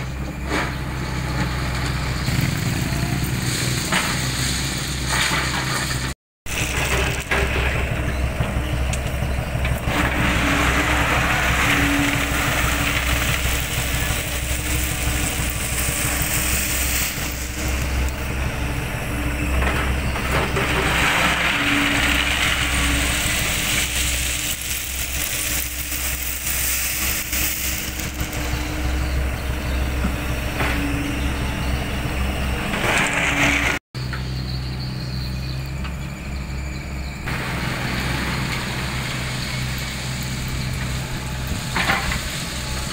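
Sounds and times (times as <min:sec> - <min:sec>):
bucket working in gravel: 0:00.0 - 0:33.8, 0:37.3 - 0:42.9
diesel excavator engine running: 0:00.0 - 0:42.9.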